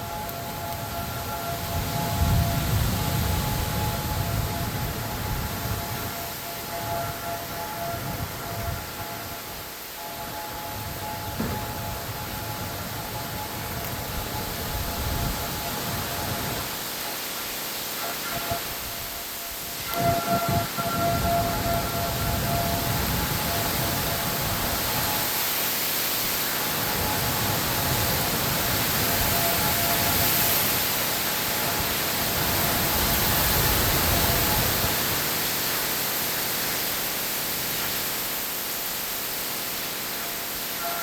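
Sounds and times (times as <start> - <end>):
warning siren steady tone: 0.0 - 36.9, 40.2 - 41.0
wind rumbling on microphone: 0.0 - 40.9
heavy rain hissing: 0.0 - 41.0.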